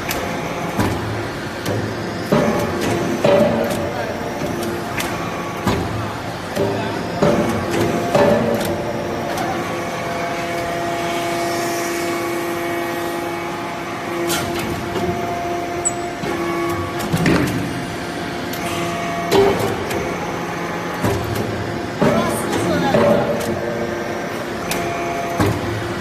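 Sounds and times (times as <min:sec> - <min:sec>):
hydraulic pump humming: 0:00.0 - 0:26.0.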